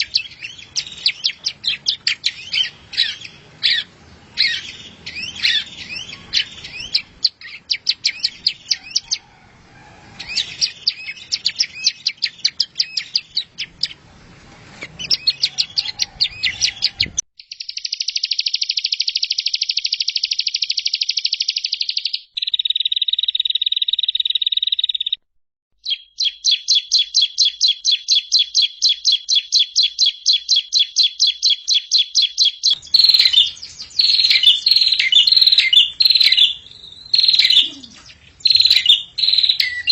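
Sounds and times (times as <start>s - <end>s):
bird trills: 0.0s - 9.3s, 10.2s - 14.0s, 15.0s - 25.2s, 25.8s - 39.9s
rapid repeated bird notes: 0.0s - 9.3s, 10.2s - 14.0s, 14.9s - 25.2s, 25.8s - 39.9s
songbird chirping: 0.0s - 25.2s, 25.8s - 39.9s.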